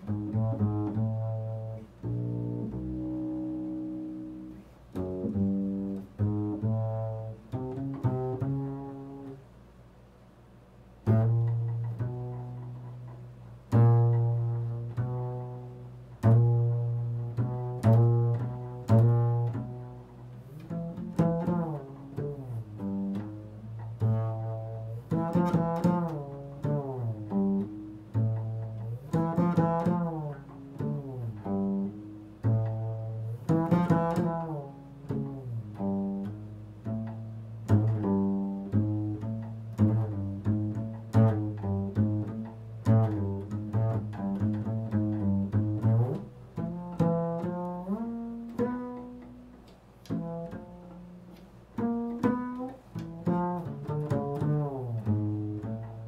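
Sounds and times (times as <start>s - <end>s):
low plucked string notes: 0.0s - 9.4s, 11.0s - 56.0s.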